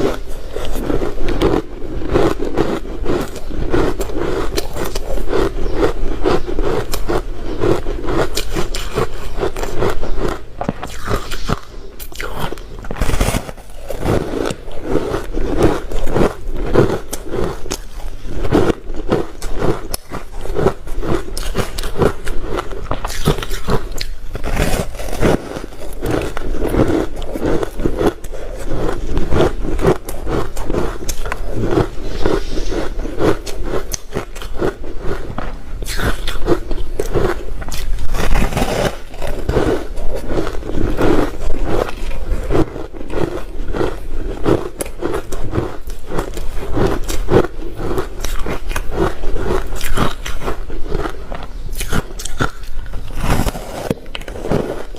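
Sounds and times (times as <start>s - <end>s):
ice crunching being chewed: 0.0s - 54.9s.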